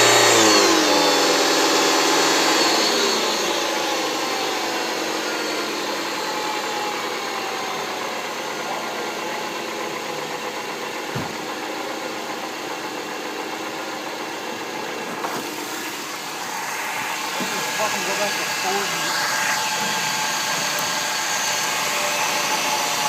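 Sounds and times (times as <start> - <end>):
alternator whine: 0.0 - 23.0.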